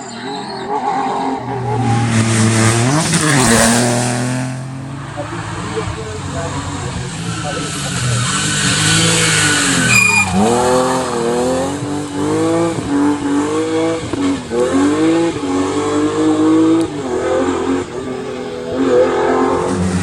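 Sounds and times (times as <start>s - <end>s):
rally car engine revving: 0.8s - 20.0s.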